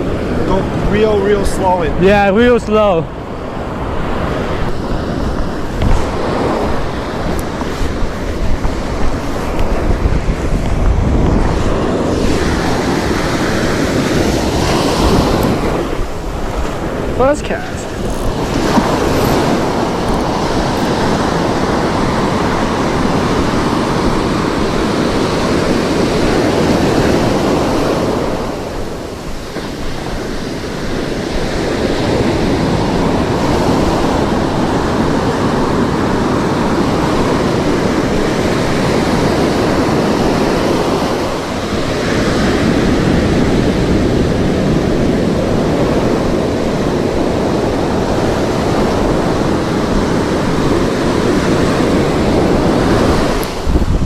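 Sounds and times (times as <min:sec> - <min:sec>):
ocean surf on beach: 0:00.0 - 0:54.0
wind buffeting microphone: 0:00.0 - 0:54.0.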